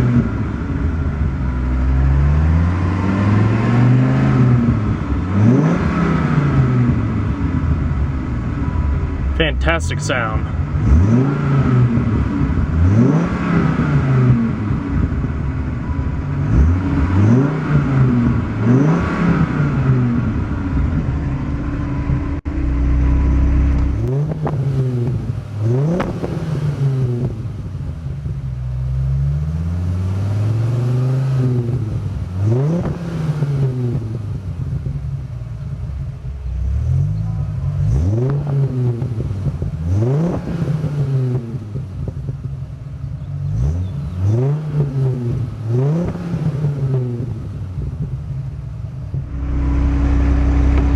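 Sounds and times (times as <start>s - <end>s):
car engine revving: 0.0s - 28.1s, 28.7s - 34.5s, 36.4s - 42.2s, 43.4s - 50.9s.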